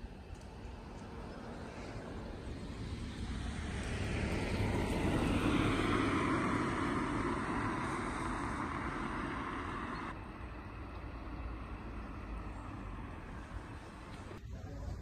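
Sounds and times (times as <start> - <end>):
car passing on wet road: 0.8 - 14.4.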